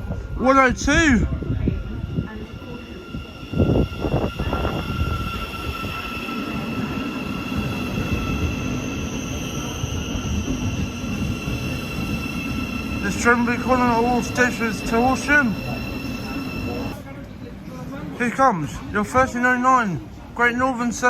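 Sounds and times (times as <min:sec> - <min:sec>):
high-pitched whine: 0:00.0 - 0:17.0
electric train rumbling: 0:00.0 - 0:18.1.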